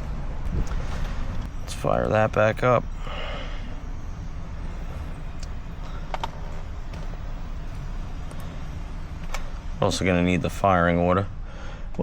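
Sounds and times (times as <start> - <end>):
engine idling with misfire: 0.0 - 12.0
engine ticking: 0.0 - 12.0.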